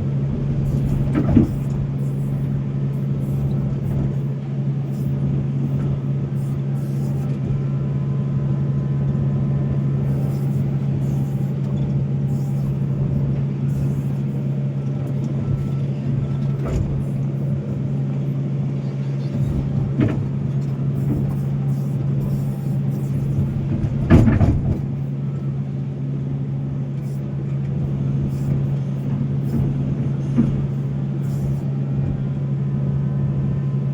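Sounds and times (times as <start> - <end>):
excavator diesel engine drone: 0.0 - 33.9.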